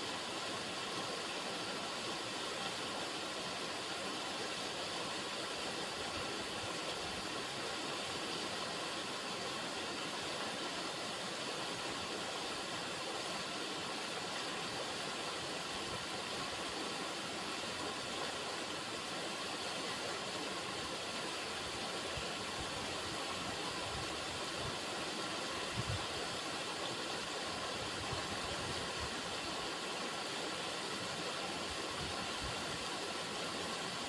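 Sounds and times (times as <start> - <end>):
river water running: 0.0 - 34.0.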